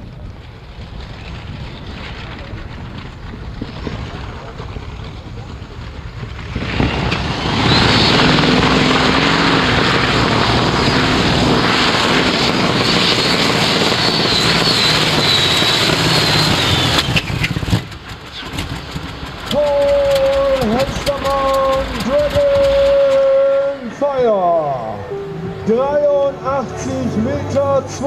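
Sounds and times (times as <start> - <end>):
engine at full power: 0.0 - 28.0
high engine whine: 0.0 - 28.0.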